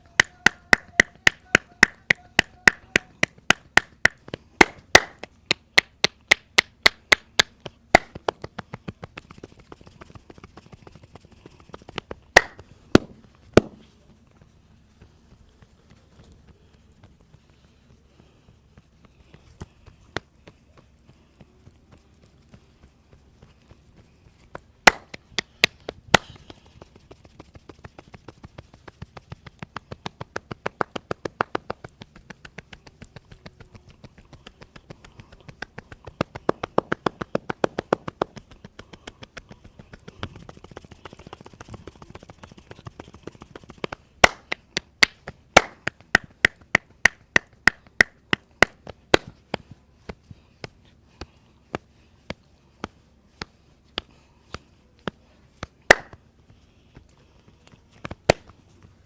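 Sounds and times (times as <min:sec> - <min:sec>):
hands slapping on body: 0:00.0 - 0:14.0, 0:21.9 - 0:59.0.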